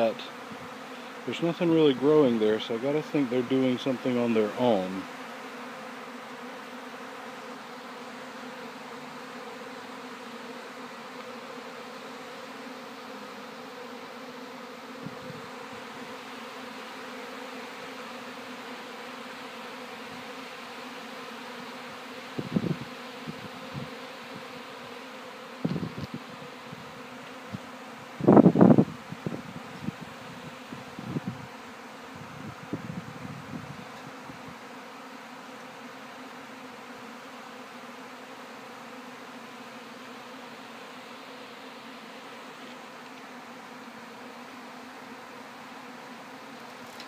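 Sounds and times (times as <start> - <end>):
bees droning: 0.0 - 47.0.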